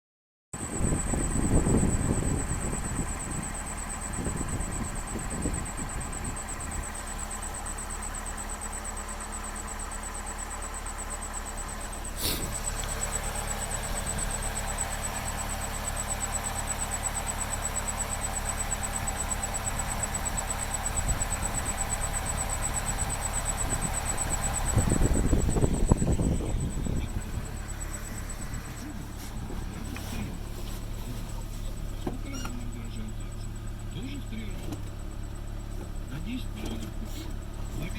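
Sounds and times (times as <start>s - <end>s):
car engine starting and idling: 0.6s - 37.9s.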